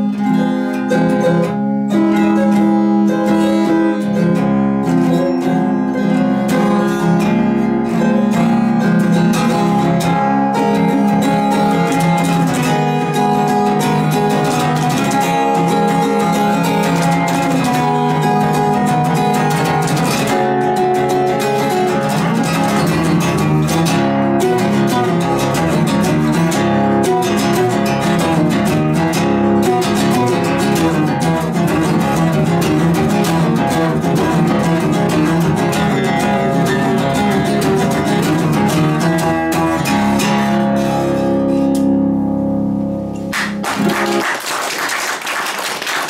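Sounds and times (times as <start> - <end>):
fingerstyle acoustic guitar: 0.0 - 44.9.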